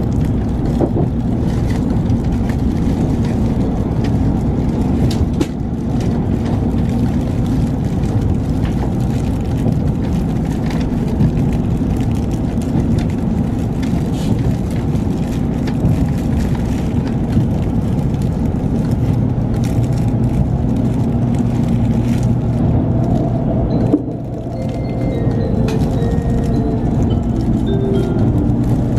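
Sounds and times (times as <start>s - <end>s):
train low rumble: 0.0s - 28.9s.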